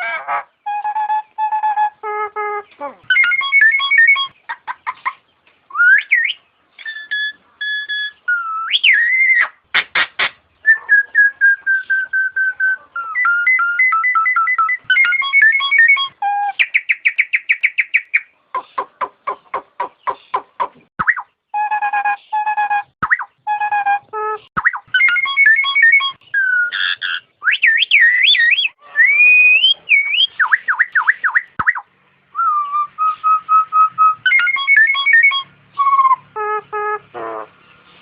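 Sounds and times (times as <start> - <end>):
myna bird whistling calls: 3.1 - 9.6, 10.6 - 21.3, 22.2 - 36.6.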